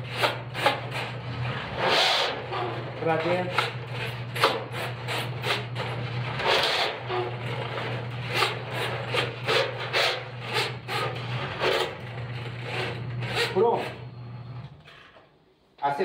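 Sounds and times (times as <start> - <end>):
drain cleaning machine motor hum: 0.0 - 14.8
cable scraping and rasping: 0.0 - 15.1.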